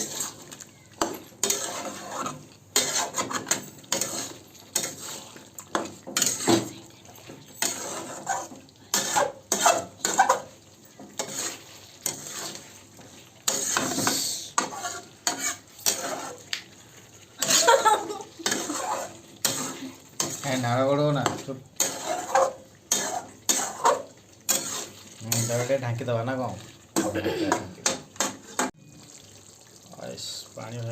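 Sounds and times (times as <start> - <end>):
metal spoon scraping a pan: 0.0 - 26.1, 27.0 - 28.8
light sizzle of frying: 0.0 - 30.9.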